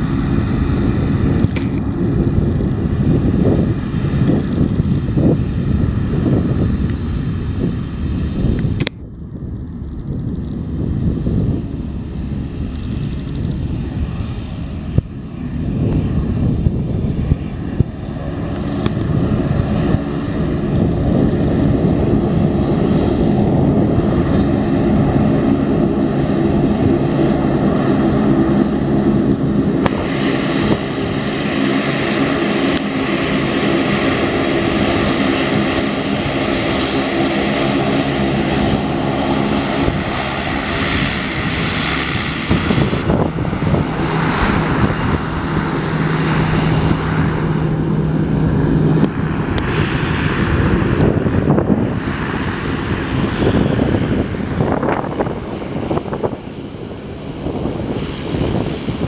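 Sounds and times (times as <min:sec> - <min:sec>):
airplane engines droning: 0:00.0 - 0:59.0.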